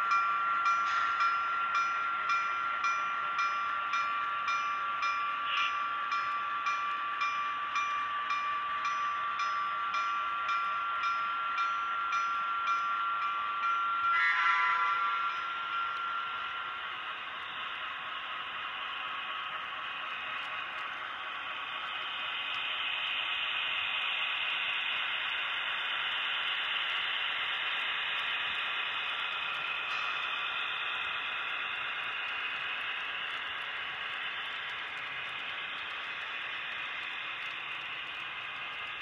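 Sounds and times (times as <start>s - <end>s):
model train wheels whirring on rails: 0.0s - 39.0s.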